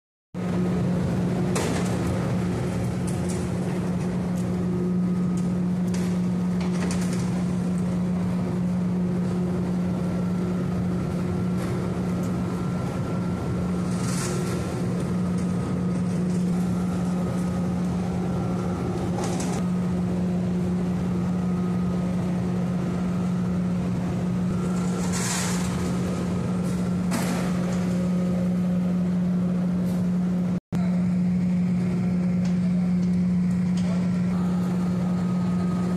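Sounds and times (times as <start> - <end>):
heavy machinery humming: 0.4 - 35.9.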